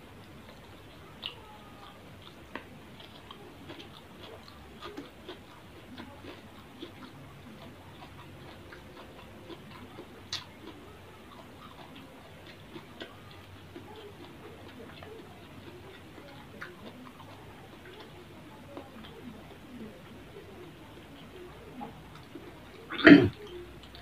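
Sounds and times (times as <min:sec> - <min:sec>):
chewing smacks: 0:00.1 - 0:24.0.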